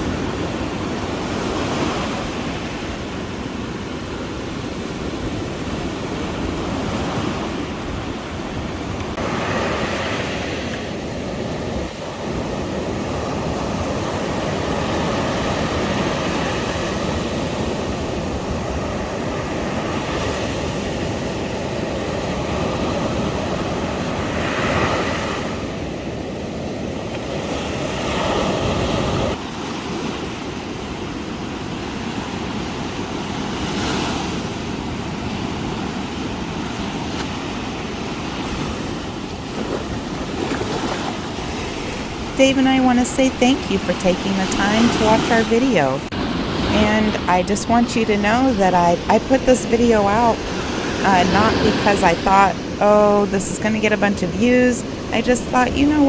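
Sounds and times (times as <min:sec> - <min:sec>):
ocean waves washing onto beach: 0:00.0 - 0:56.0.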